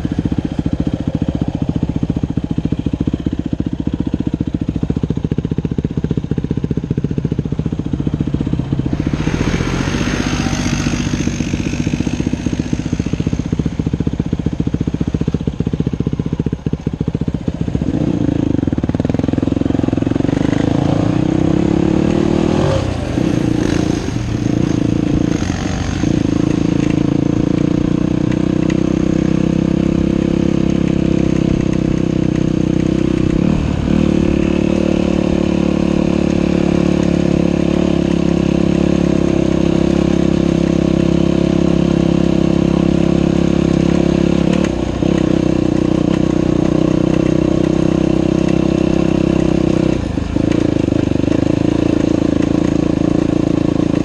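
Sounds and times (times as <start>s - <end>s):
dirt bike engine revving: 6.0s - 54.0s.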